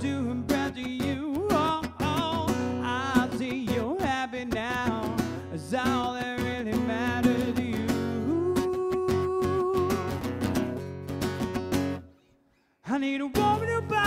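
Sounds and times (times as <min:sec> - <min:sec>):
acoustic guitar strumming: 0:00.0 - 0:12.4, 0:13.1 - 0:14.0.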